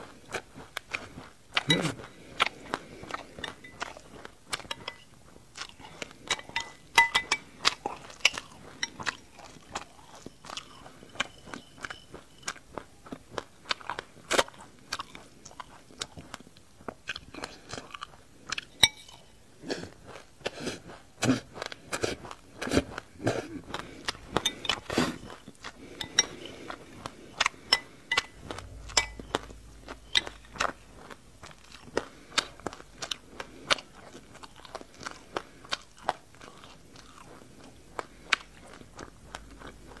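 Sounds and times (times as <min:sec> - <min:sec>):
crunching and chewing seeds: 0:00.0 - 0:40.0.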